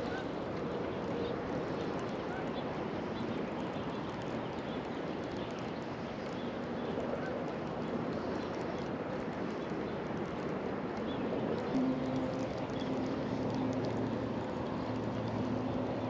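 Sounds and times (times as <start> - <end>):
river background noise: 0.0 - 16.0.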